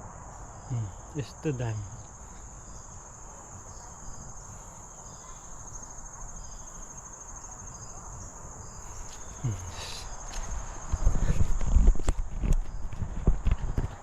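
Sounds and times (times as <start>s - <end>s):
insects trilling: 0.0s - 11.8s.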